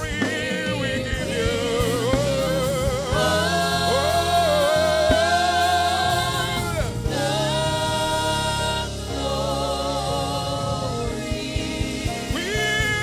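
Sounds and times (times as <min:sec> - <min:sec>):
gospel singing voices: 0:00.0 - 0:13.0
instrumental backing: 0:00.0 - 0:13.0.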